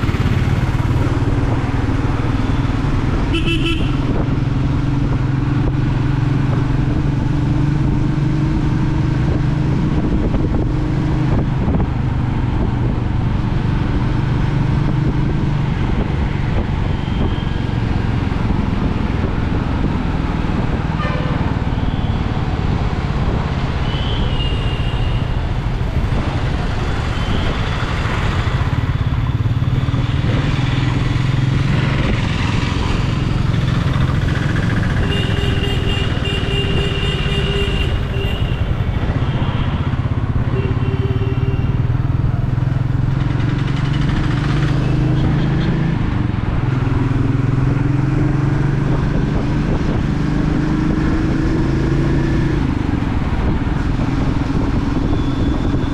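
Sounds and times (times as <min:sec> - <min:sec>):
motorcycle engine cruising: 0:00.0 - 0:55.9.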